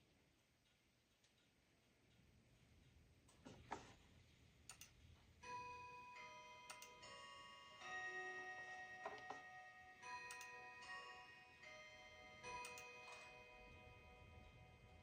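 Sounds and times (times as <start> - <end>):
soft steady tones: 0.0 - 15.0.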